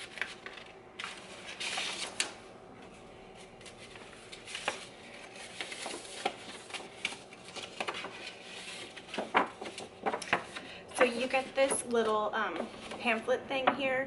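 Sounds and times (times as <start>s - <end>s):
paper rustling and crinkling: 0.0s - 13.3s.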